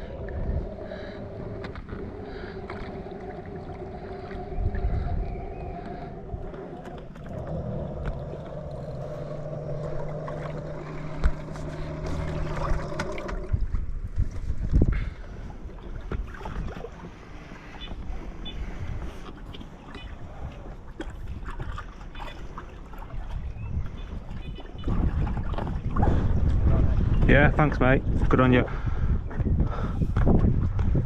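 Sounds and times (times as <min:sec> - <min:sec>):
boat motor hum: 0:00.0 - 0:27.3
water: 0:00.0 - 0:31.0
wind: 0:00.0 - 0:31.0.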